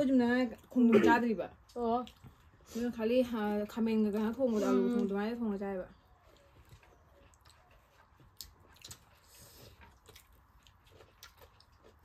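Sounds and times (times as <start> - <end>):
soft chewing: 0.1 - 12.0.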